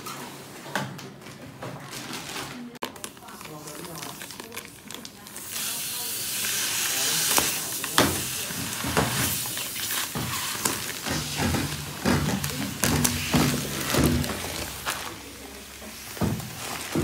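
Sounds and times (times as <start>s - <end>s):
plastic crinkling: 1.8s - 17.0s.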